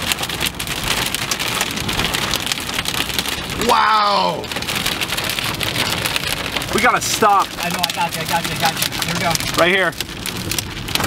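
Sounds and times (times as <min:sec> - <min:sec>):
heavy rain on vehicle: 0:00.0 - 0:11.0.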